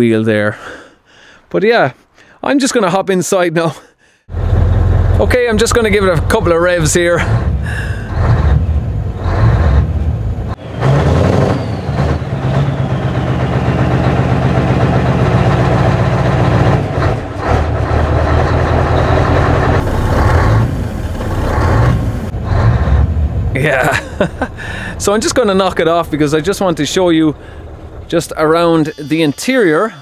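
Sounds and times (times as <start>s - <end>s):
diesel engine revving: 4.3s - 28.8s.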